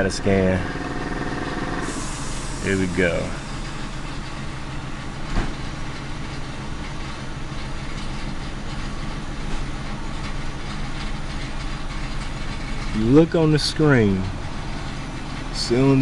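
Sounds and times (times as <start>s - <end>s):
misfiring engine idling: 0.0s - 16.0s.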